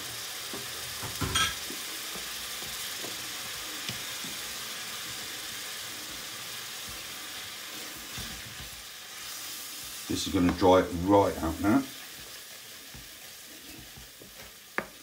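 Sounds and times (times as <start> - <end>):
food sizzling in a frying pan: 0.0 - 15.0
wooden spoon stirring: 1.6 - 15.0.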